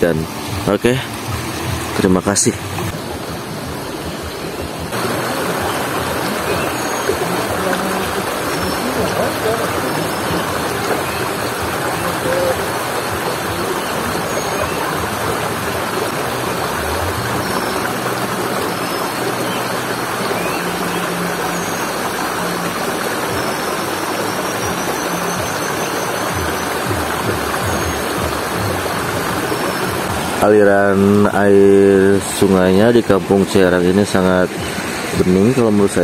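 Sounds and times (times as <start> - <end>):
stream rushing over stones: 0.0 - 36.0.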